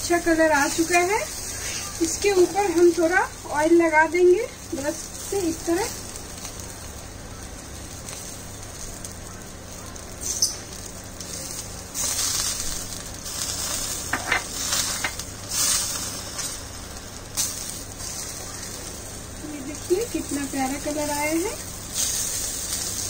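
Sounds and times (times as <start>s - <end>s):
chicken sizzling on a grill: 0.0s - 23.0s.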